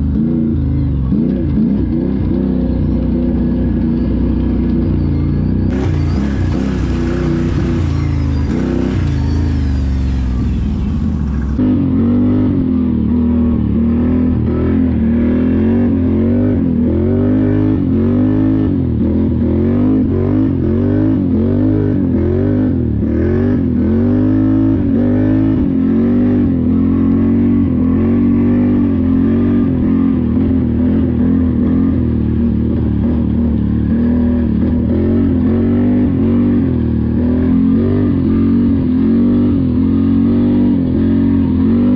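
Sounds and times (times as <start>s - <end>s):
engine revving: 0.0s - 41.9s.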